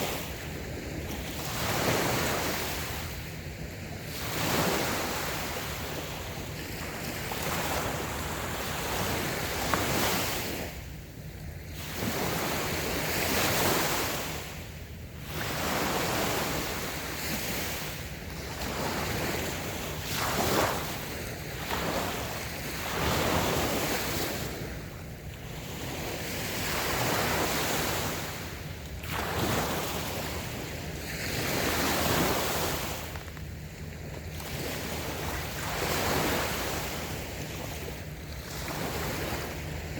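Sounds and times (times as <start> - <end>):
small waves breaking on sand: 0.0 - 39.9.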